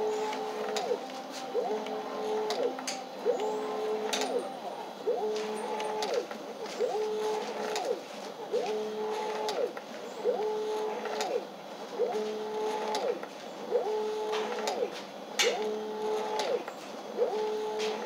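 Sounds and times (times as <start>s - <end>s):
machine-like whine: 0.0s - 18.0s.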